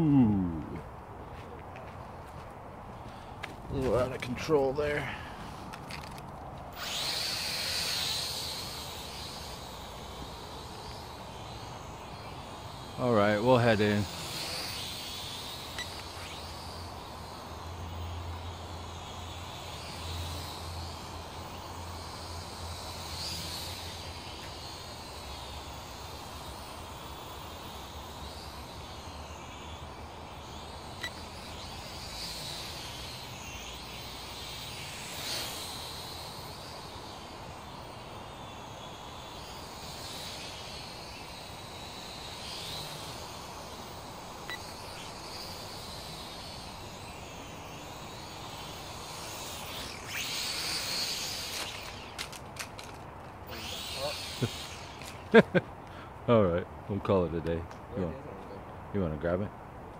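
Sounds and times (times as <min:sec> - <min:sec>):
toy quadcopter motors whining: 0:00.0 - 0:57.4, 0:58.0 - 0:58.5.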